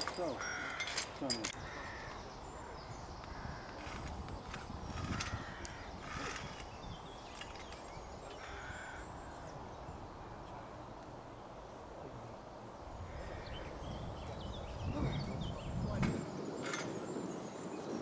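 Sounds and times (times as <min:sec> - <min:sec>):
bird calls: 0:00.0 - 0:10.7, 0:12.8 - 0:18.0.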